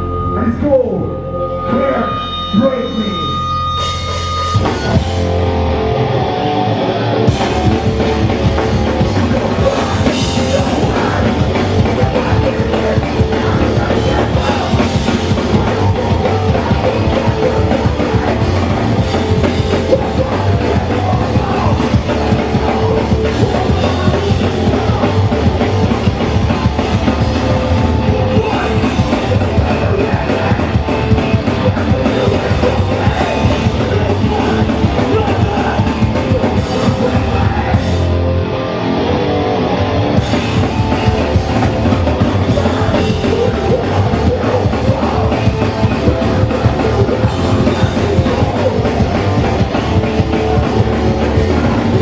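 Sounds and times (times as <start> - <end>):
bass guitar: 0.0 - 52.0
distorted guitars: 0.0 - 52.0
drums: 0.0 - 52.0.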